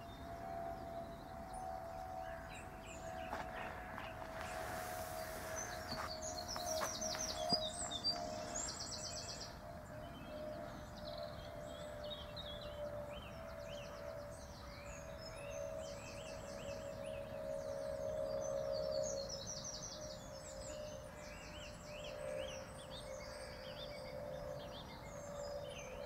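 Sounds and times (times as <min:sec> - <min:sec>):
songbirds trilling and chirping: 0:00.0 - 0:26.0
steady humming tone: 0:00.0 - 0:26.0.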